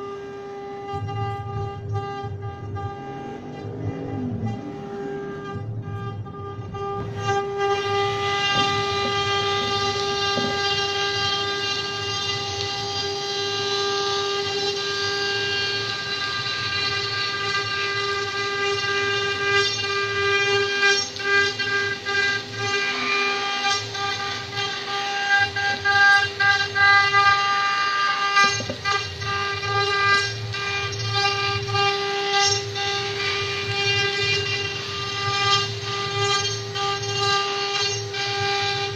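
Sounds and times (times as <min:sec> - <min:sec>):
router bits cutting wood: 0:00.0 - 0:38.9
router spindles whining: 0:00.0 - 0:38.9.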